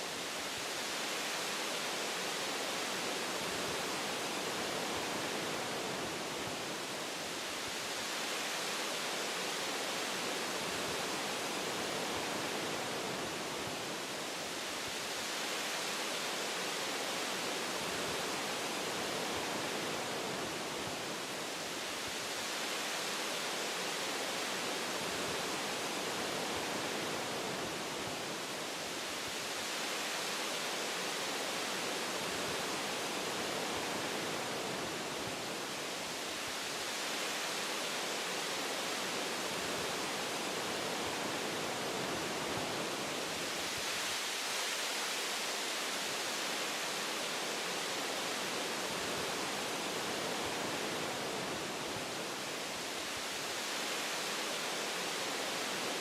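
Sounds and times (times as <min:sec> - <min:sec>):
wind blowing through tree branches: 0:00.0 - 0:56.0.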